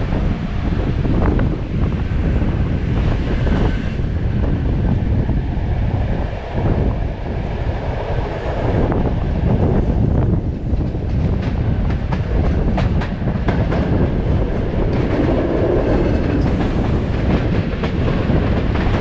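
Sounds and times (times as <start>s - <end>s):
train wheels rumbling on track: 0.0s - 19.0s
wind buffeting microphone: 0.0s - 19.0s.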